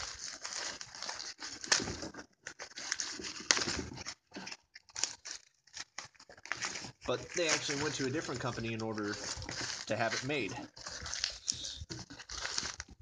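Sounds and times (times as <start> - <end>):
packaging being torn open: 0.0 - 13.0.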